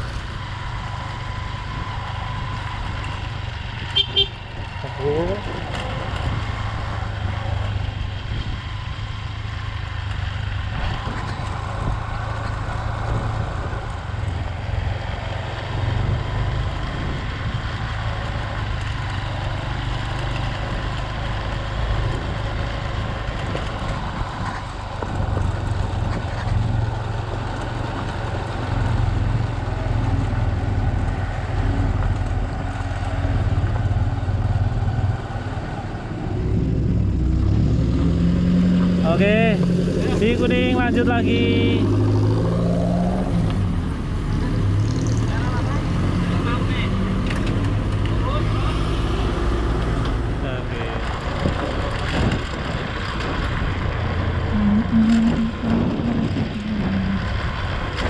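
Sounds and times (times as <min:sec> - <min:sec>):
off-road vehicle engine rumbling: 0:00.0 - 0:58.0.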